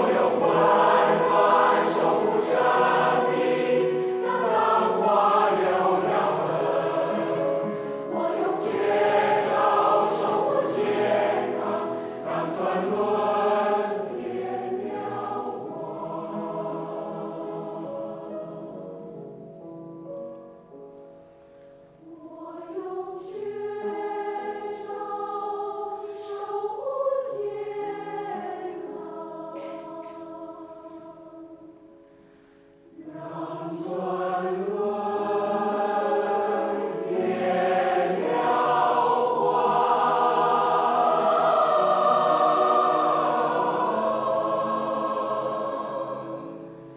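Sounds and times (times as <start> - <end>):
choir singing in harmony: 0.0 - 19.6, 21.9 - 46.9.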